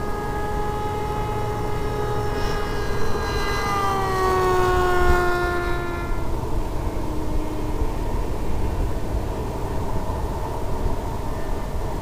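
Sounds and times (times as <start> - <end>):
electric motor and propeller whining: 0.0 - 11.1.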